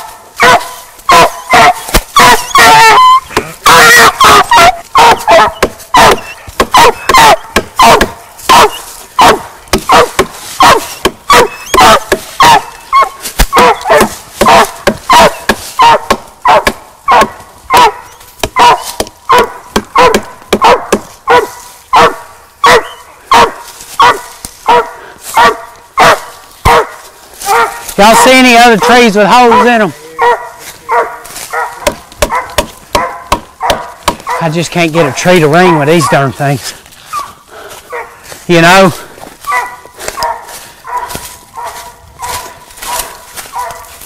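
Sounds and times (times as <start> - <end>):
dog barking rapidly: 0.1 - 36.4, 37.9 - 38.8, 39.5 - 44.0.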